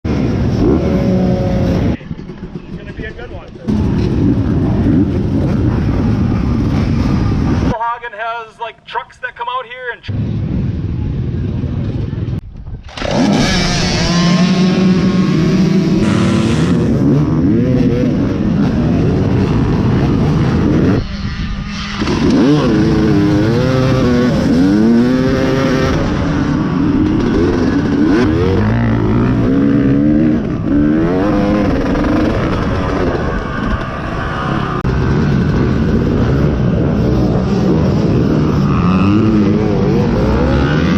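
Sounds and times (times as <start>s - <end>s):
dirt bike engine revving: 0.1s - 7.8s, 12.8s - 40.9s.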